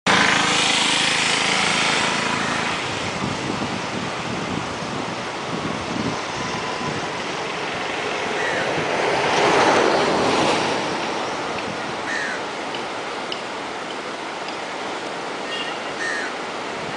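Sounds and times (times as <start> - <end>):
river water rushing: 0.1 - 16.9.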